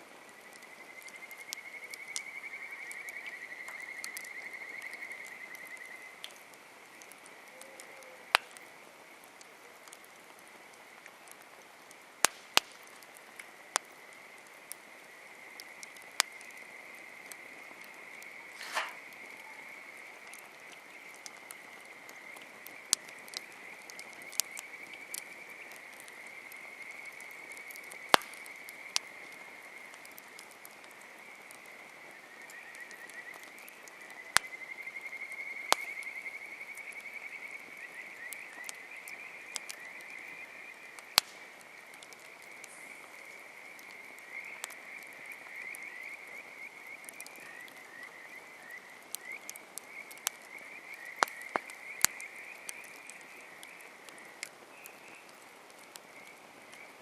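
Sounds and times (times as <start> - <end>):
campfire popping and crackling: 0.0 - 57.0.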